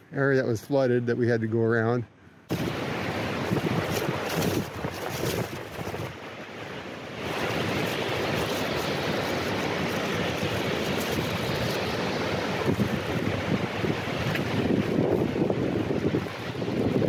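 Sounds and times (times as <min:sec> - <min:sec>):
surf breaking on rocks: 0:02.5 - 0:17.0
wind on microphone: 0:02.5 - 0:17.0.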